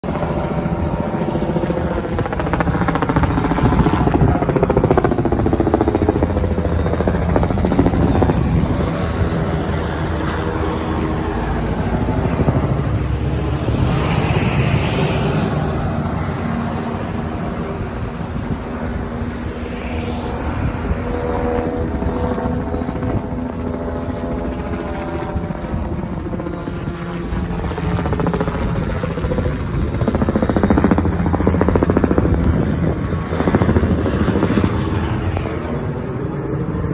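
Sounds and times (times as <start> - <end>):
helicopter rotor drone: 0.0 - 36.9.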